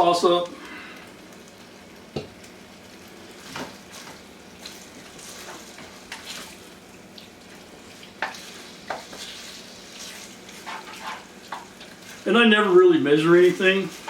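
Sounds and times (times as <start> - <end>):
chicken sizzling in oil: 1.2 - 14.0.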